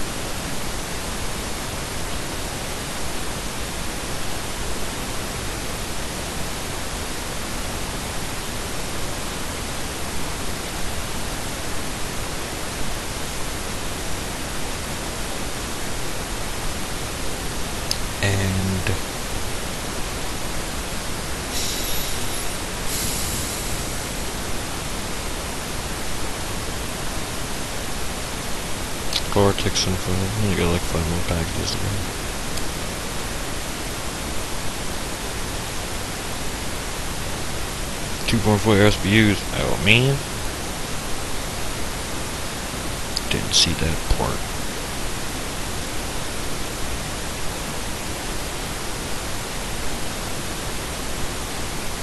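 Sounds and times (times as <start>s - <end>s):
steady background hiss: 0.0s - 52.0s.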